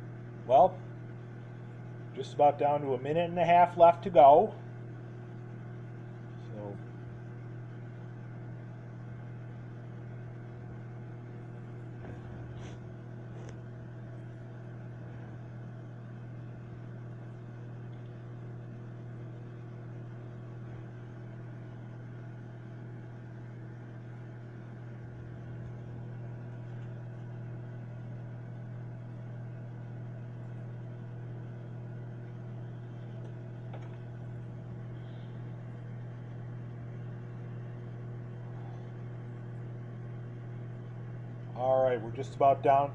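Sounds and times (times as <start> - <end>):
microwave oven humming: 0.0 - 42.9.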